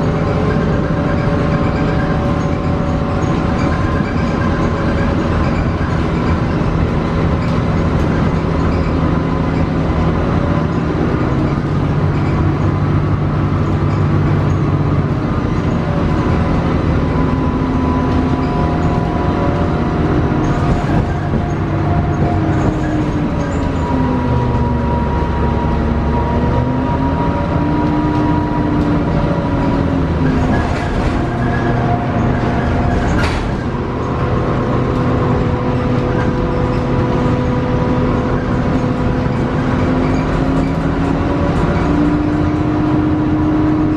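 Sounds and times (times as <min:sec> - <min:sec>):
bus engine drone: 0:00.0 - 0:43.9
road noise: 0:00.0 - 0:43.9.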